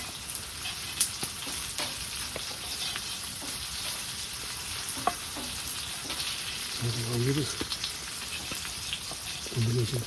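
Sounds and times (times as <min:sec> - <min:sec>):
steak sizzling: 0:00.0 - 0:10.0.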